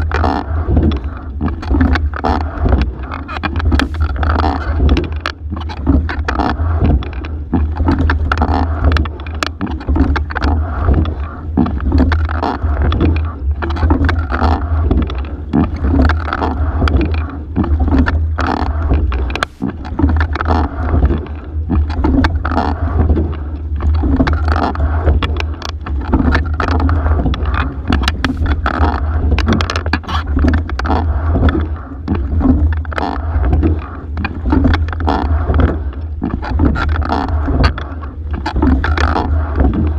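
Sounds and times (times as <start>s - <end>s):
low microphone rumble: 0.0s - 39.9s
water rushing along boat hull: 0.0s - 39.9s.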